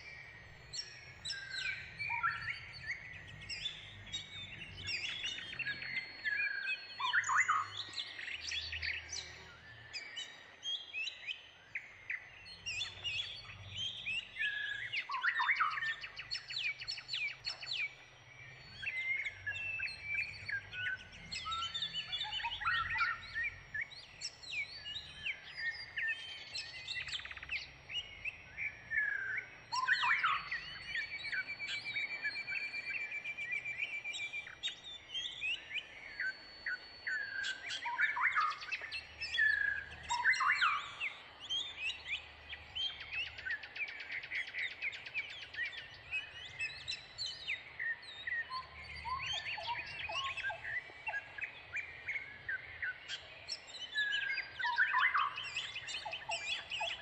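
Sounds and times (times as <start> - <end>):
small birds chirping and singing: 0.0 - 57.0
thin steady high tone: 0.0 - 57.0.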